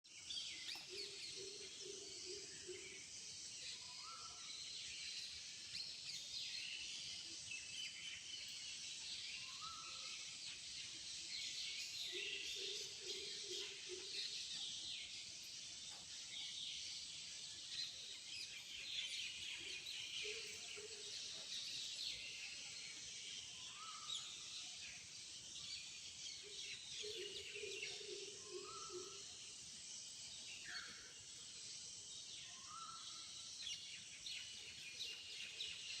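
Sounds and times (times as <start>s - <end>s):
birds chirping and calling: 0.1s - 36.0s.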